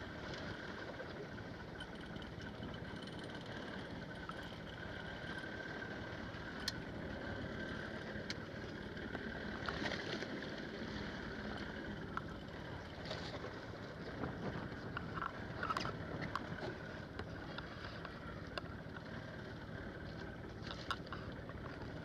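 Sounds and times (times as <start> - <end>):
boat engine drone: 0.0 - 22.0
water noise: 0.0 - 22.0.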